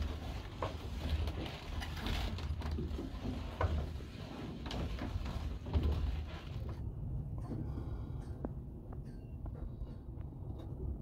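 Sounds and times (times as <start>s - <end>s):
wooden gears rumbling: 0.0s - 11.0s.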